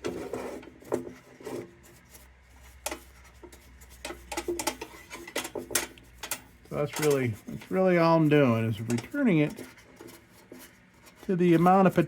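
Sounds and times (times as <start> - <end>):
hand scrubbing metal: 1.2 - 12.0.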